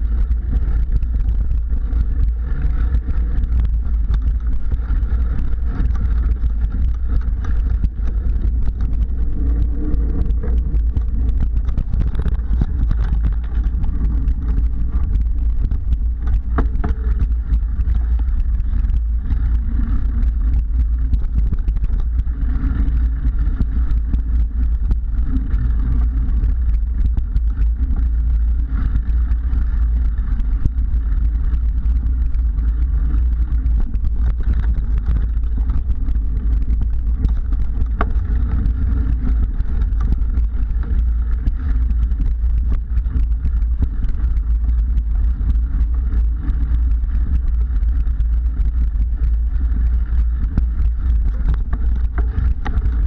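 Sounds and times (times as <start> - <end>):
bike knocks and rattles: 0.0 - 48.6
wind and tyre rumble: 0.0 - 53.0.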